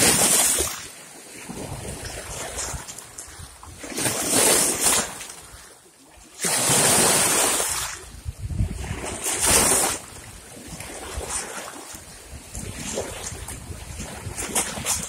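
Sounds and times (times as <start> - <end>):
small waves splashing over rocks: 0.0 - 15.0.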